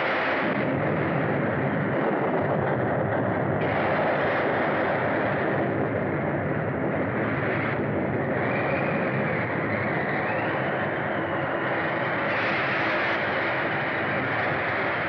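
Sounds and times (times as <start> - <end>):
dense rumbling noise: 0.0 - 15.0.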